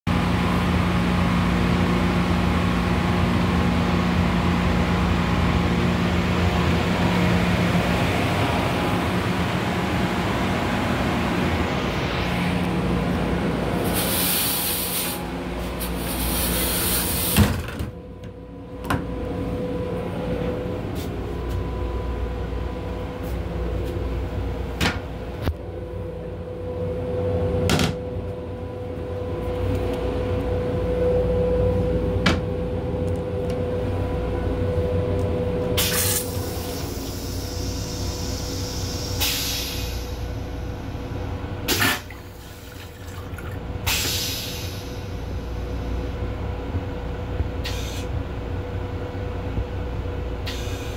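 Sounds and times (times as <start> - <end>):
train running rumble and hum: 0.1 - 50.9.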